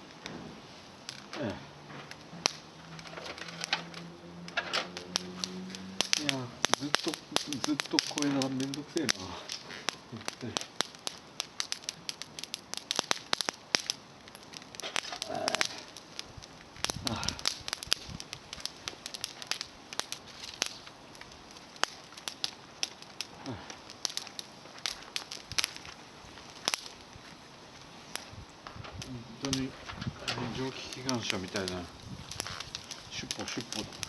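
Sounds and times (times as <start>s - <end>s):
campfire crackling: 0.0s - 34.0s
fire hissing puffs: 0.0s - 34.0s.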